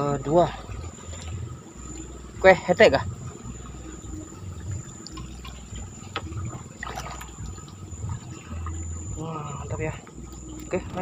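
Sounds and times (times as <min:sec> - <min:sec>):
high insect drone: 0:00.0 - 0:11.0
river water lapping around boat: 0:00.0 - 0:11.0.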